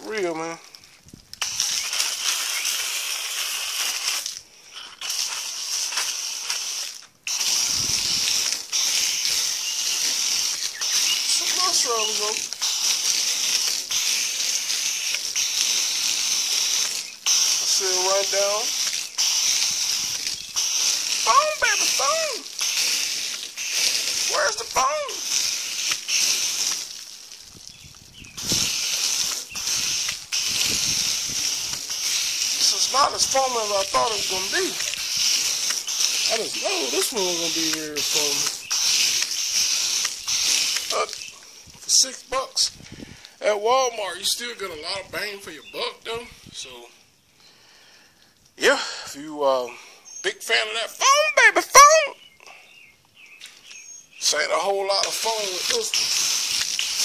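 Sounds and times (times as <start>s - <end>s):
hose spraying water hiss: 0.0s - 46.9s, 50.4s - 52.1s, 53.4s - 57.0s.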